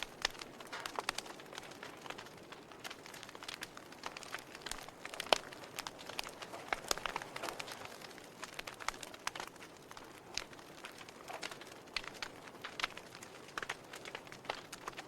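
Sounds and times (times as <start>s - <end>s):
fire popping and snapping: 0.0s - 15.0s
wood fire crackling: 0.0s - 15.0s.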